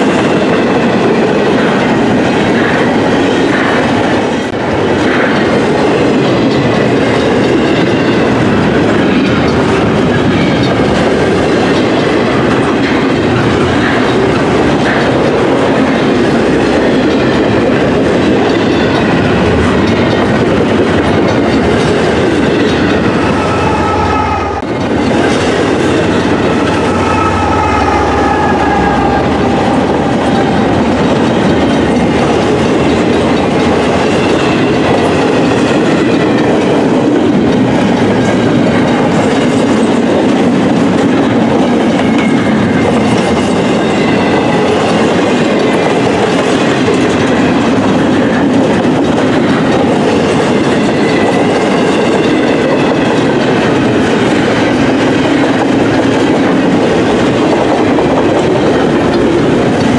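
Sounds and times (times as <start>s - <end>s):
clickety-clack over rail joints: 0.0s - 59.9s
diesel locomotive engine drone: 0.0s - 59.9s
train wheels rumbling on rail: 0.0s - 59.9s.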